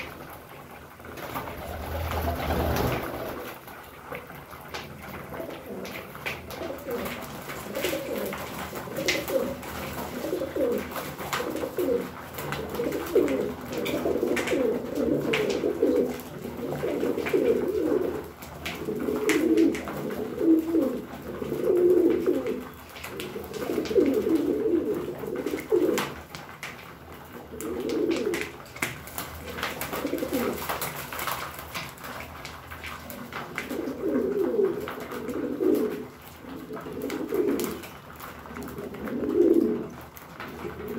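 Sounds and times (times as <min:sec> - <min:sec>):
pigeons cooing: 0:00.0 - 0:31.4, 0:32.1 - 0:40.9.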